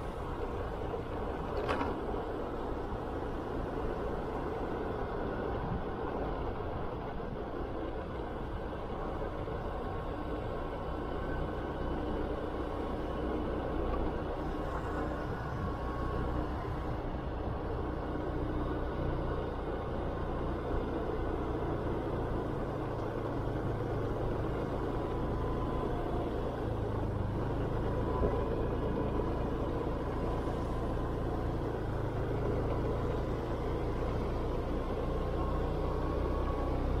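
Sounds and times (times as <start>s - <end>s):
motorcycle engine hum: 0.0s - 37.0s
road noise: 0.0s - 37.0s
wind: 0.0s - 37.0s.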